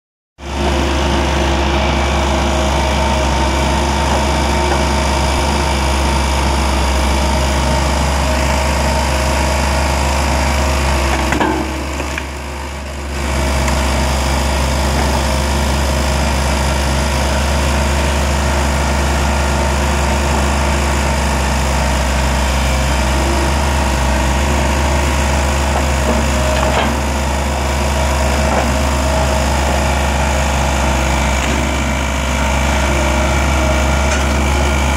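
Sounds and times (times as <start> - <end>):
skid steer engine running: 0.4 - 34.9.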